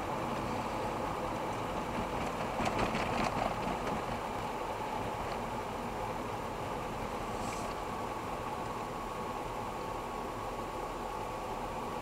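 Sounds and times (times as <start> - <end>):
car driving on wet road: 0.0 - 10.1.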